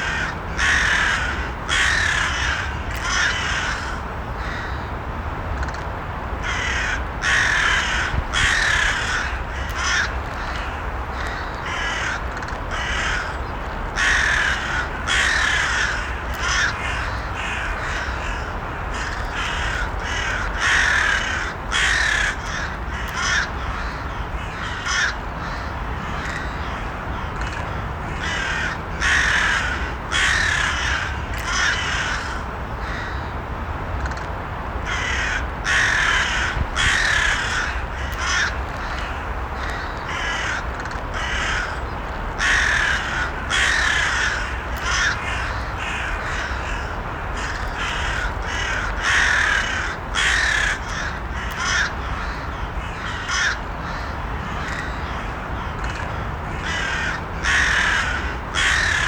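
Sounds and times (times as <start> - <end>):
crows cawing: 0.0 - 4.9, 6.4 - 33.3, 34.8 - 59.0.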